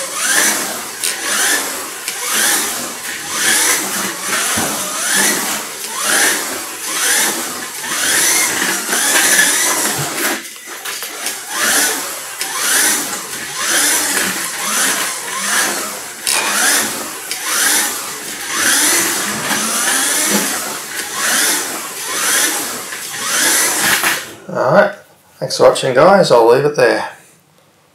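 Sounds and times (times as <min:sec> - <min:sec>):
toy car electric motor whining: 0:00.0 - 0:24.4.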